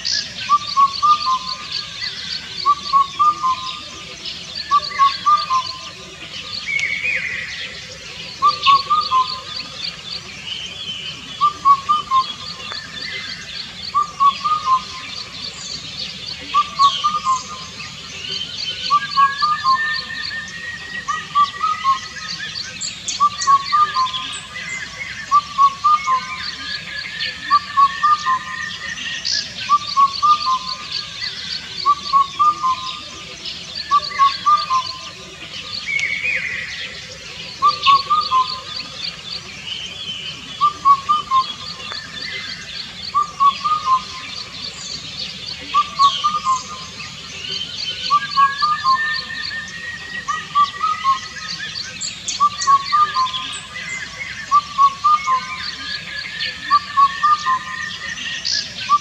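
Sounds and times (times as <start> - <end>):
birds whistling and chirping: 0.0 - 59.0
cuckoo call: 0.0 - 59.0.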